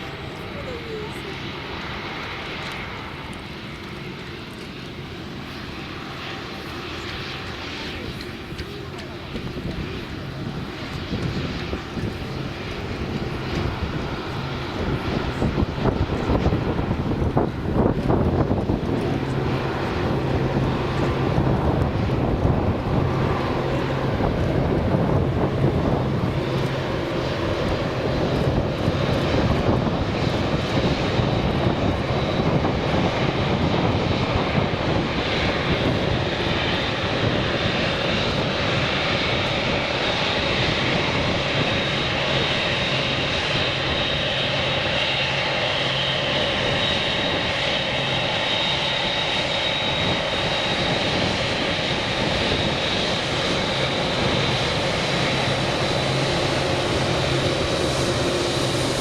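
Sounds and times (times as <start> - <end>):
high jet whine: 0.0 - 59.0
jet engines running: 0.0 - 59.0.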